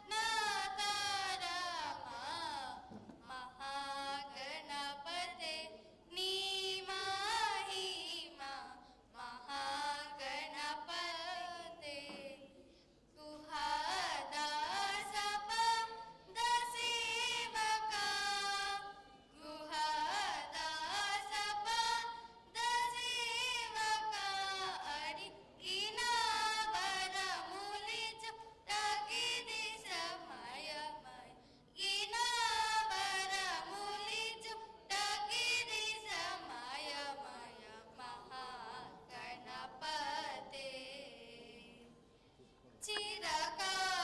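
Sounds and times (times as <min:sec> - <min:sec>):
girls singing unaccompanied: 0:00.0 - 0:12.6, 0:13.2 - 0:41.9, 0:42.8 - 0:44.0.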